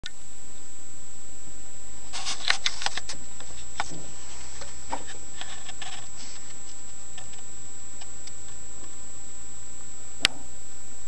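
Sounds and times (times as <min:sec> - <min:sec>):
high-pitched whine: 0:00.0 - 0:11.0
steady hiss: 0:00.0 - 0:11.0.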